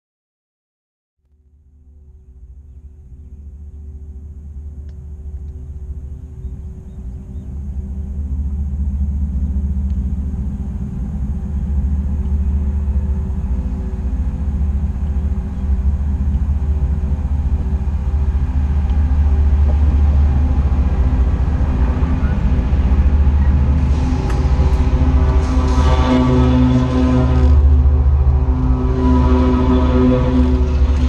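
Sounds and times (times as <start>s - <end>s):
locomotive engine rumble: 1.8s - 31.0s
faint steady tones: 2.0s - 31.0s.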